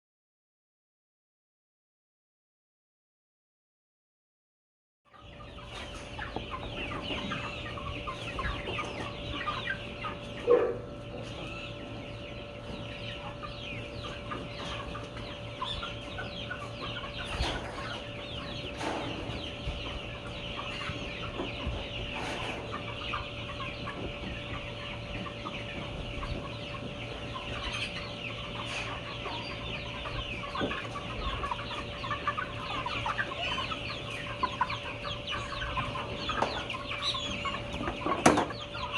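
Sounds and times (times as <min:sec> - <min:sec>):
chickens clucking: 0:05.1 - 0:38.9.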